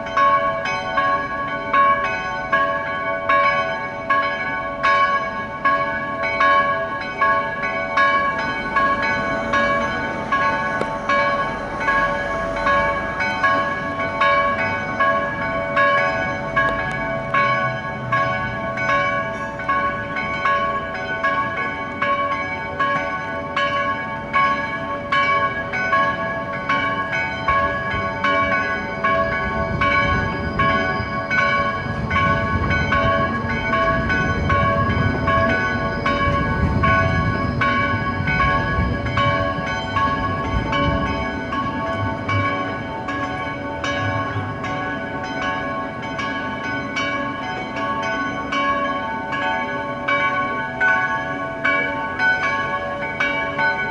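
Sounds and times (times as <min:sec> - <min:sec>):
church bells pealing: 0:00.0 - 0:53.9.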